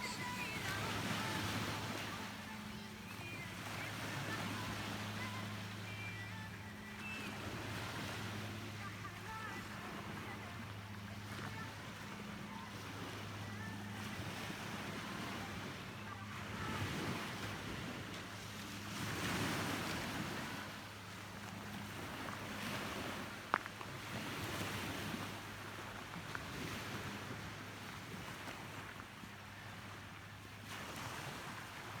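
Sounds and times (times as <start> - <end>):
sea waves washing: 0.0 - 32.0.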